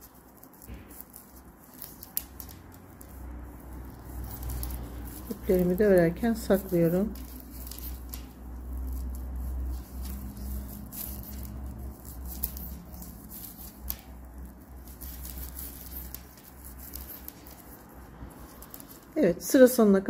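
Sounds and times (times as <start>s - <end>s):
yarn rustling through stitches: 0.0s - 19.6s.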